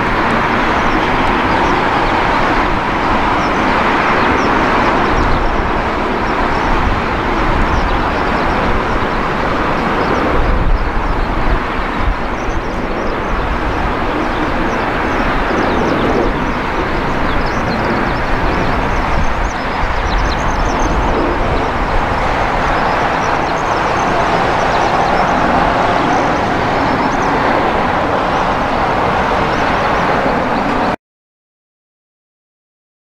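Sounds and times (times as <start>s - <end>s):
jet engines at taxi power: 0.0s - 31.0s.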